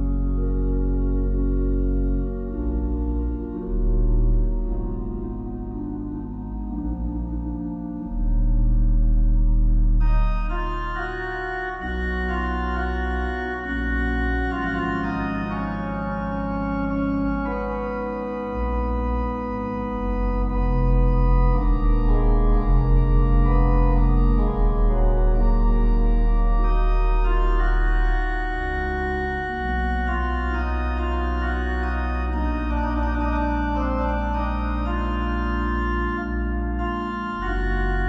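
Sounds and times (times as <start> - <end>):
slow organ music: 0.0 - 38.0.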